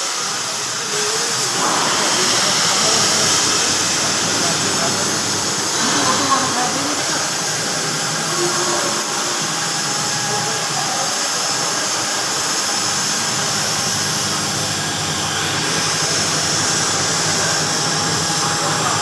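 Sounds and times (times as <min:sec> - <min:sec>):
welding machine whir and hiss: 0:00.0 - 0:19.0.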